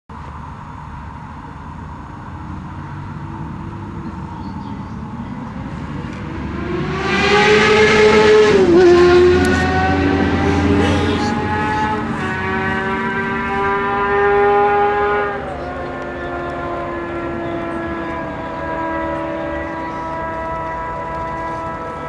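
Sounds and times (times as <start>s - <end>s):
motorcycle engine revving: 1.8s - 22.0s.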